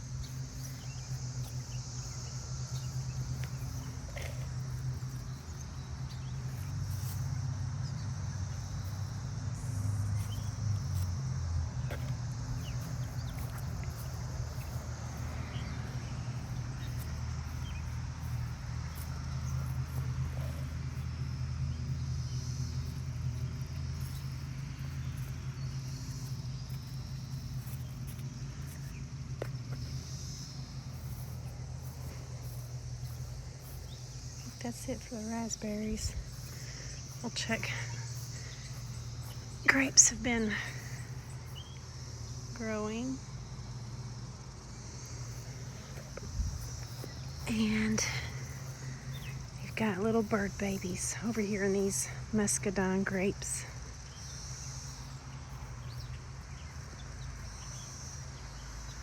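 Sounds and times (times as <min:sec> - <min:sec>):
high insect drone: 0:00.0 - 0:59.0
low uneven rumble: 0:00.0 - 0:59.0.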